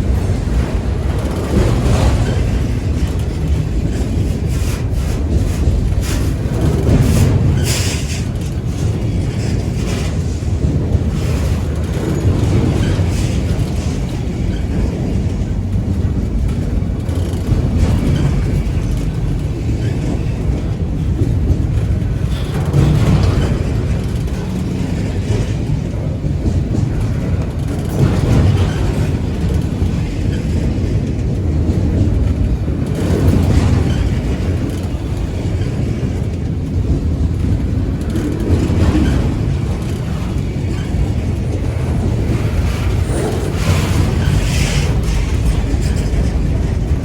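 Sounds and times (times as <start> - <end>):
freight train wheels rumbling on rails: 0.0 - 47.0.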